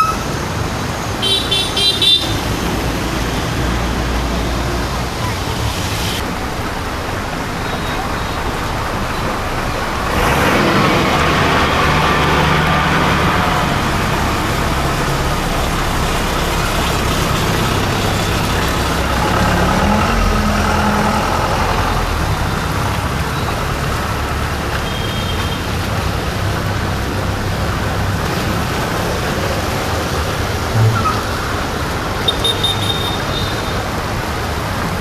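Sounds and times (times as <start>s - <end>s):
steady traffic hiss: 0.0s - 35.0s
vehicle engines running: 0.0s - 35.0s.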